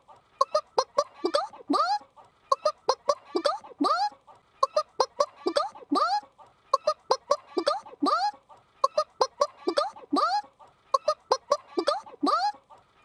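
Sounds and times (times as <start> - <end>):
person imitating a chicken: 0.4 - 12.7.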